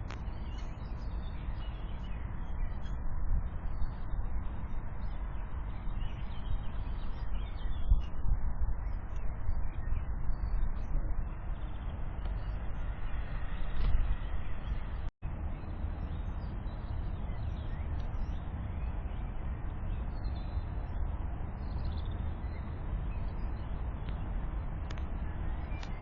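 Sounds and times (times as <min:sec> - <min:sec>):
small birds chirping: 0:00.0 - 0:26.0
steady low rumble: 0:00.0 - 0:26.0.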